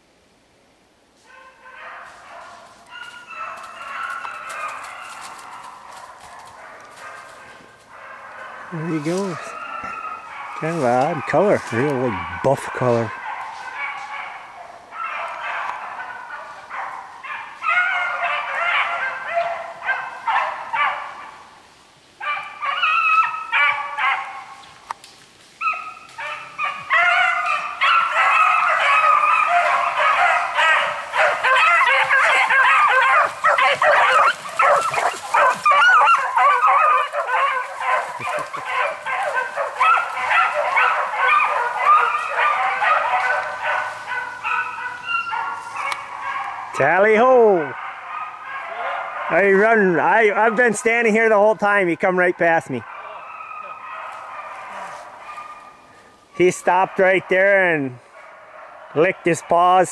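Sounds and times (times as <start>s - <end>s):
hounds baying: 1.3s - 21.6s, 22.2s - 24.8s, 25.6s - 59.9s.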